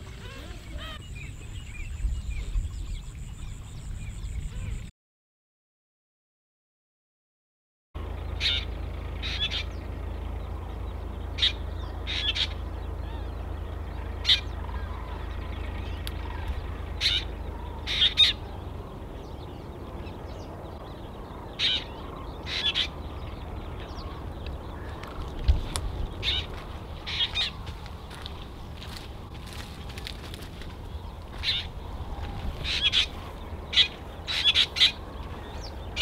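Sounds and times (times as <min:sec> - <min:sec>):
birds calling roughly: 0:00.0 - 0:04.9, 0:08.0 - 0:36.0
steady low rumble: 0:00.0 - 0:04.9, 0:08.0 - 0:36.0.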